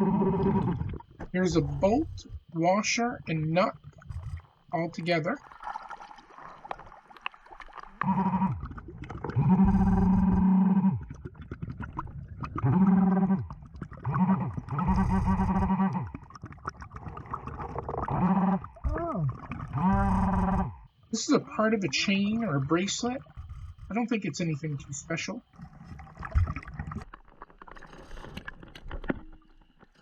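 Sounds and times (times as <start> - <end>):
bubbles rumbling: 0.0 - 30.0.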